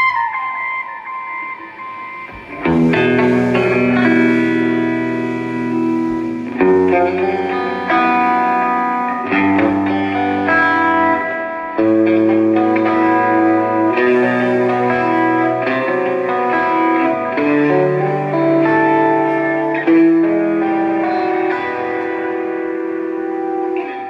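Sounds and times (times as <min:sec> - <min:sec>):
drums: 0:00.0 - 0:24.0
electric guitar: 0:00.0 - 0:24.0
bass guitar: 0:02.2 - 0:24.0.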